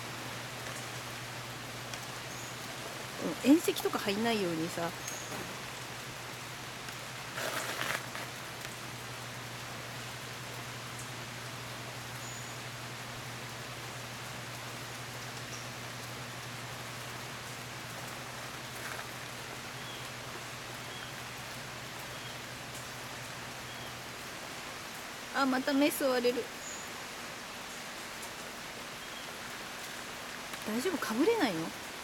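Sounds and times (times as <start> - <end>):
steady outdoor hiss: 0.0 - 32.0.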